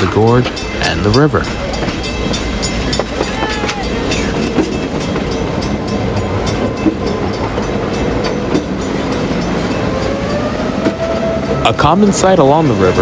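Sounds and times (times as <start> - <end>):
train rumble: 0.0 - 13.0
train wheels clicking on rails: 0.0 - 13.0.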